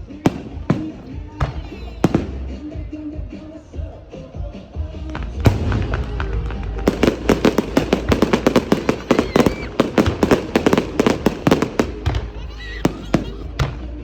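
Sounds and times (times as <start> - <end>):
fireworks bangs and crackles: 0.0 - 14.0
music: 0.0 - 14.0.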